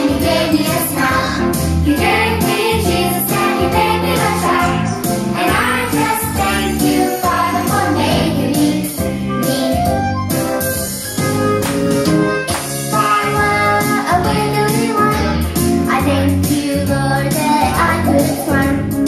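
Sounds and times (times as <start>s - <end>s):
voices singing over backing track: 0.0s - 10.6s, 12.8s - 19.0s.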